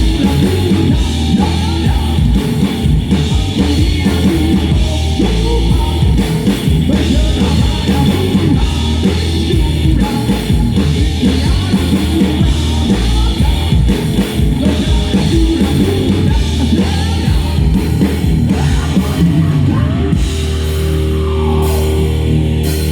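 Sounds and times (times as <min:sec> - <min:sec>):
live rock band playing: 0:00.0 - 0:22.9.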